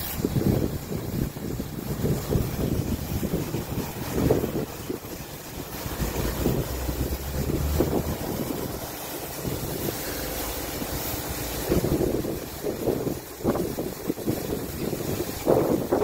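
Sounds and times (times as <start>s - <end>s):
car wash brushes turning: 0.0s - 16.0s
water jets spraying: 0.0s - 16.0s
wind buffeting microphone: 0.0s - 16.0s
low machine rumble: 2.1s - 15.0s.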